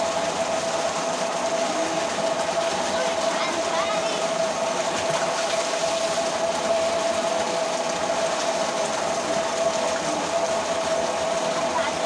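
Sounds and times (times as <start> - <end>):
steady hum: 0.0 - 12.0
water pouring into a tank: 0.0 - 12.0.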